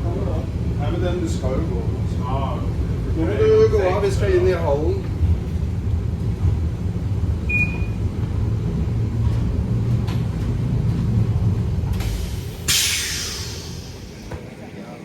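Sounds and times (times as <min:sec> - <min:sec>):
tram rumbling: 0:00.0 - 0:15.0.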